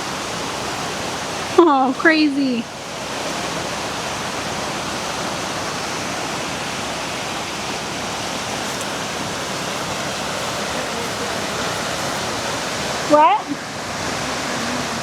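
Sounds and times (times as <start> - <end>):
fast-flowing floodwater rushing: 0.0 - 15.0.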